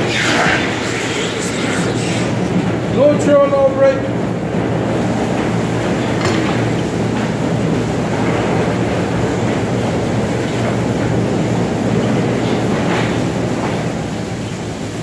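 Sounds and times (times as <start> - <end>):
car wash machinery running: 0.0 - 15.0.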